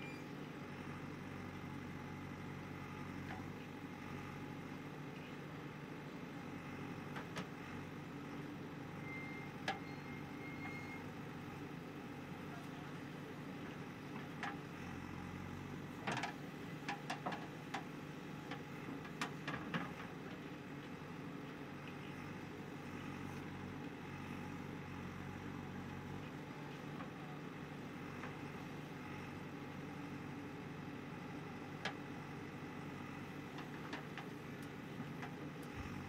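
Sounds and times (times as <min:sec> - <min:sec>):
diesel engine running under load: 0:00.0 - 0:36.0.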